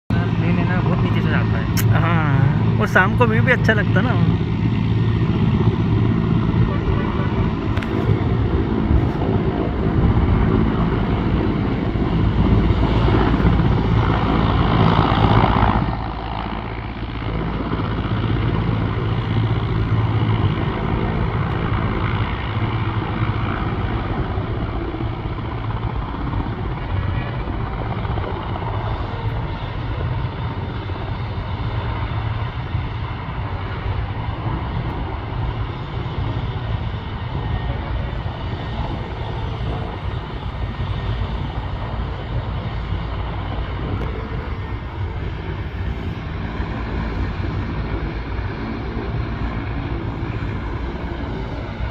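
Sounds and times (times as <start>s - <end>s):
helicopter engines and rotors: 0.0s - 51.9s.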